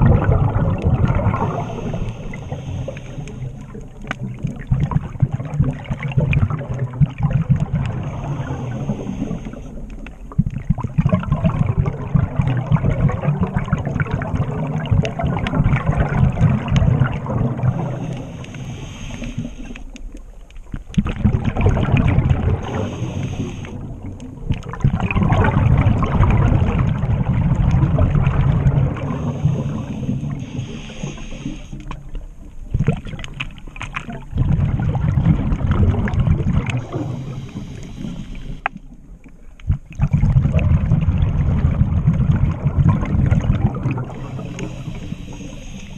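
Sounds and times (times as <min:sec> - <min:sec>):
exhaled air bubbling underwater: 0:00.0 - 0:45.9.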